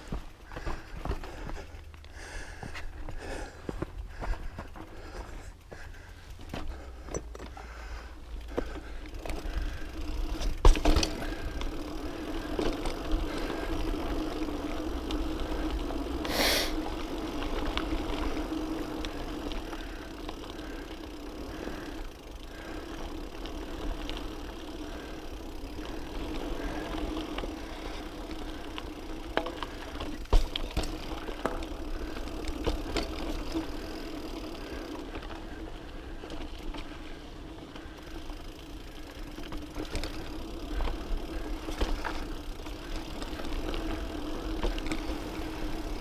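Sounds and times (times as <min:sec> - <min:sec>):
bike tyre and frame rattle: 0:00.0 - 0:46.0.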